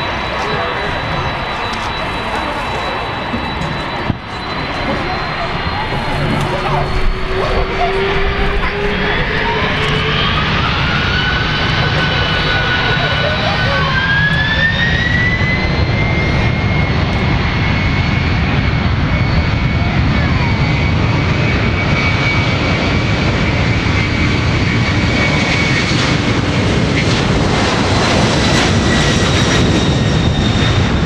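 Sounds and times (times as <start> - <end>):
jet engines roaring at takeoff: 0.0 - 31.0.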